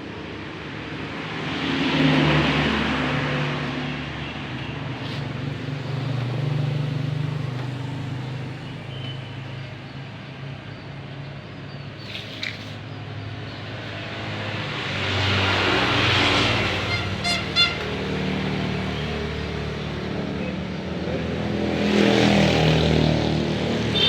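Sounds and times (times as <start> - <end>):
vehicle engines running: 1.0 - 24.0.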